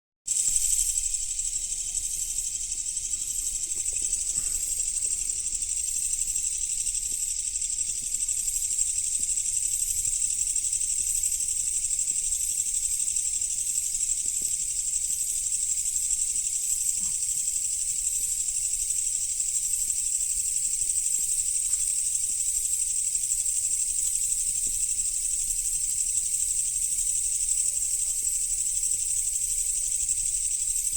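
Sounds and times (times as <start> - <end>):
insects chirping chorus: 0.3 - 30.9.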